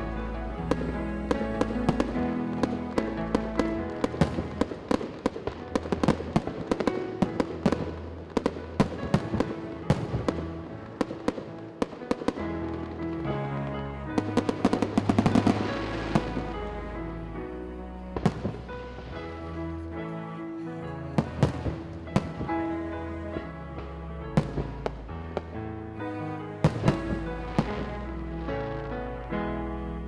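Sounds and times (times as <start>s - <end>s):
fireworks bangs and crackles: 0.0s - 16.9s, 18.1s - 19.6s, 21.2s - 22.7s, 23.3s - 25.6s, 26.6s - 28.9s.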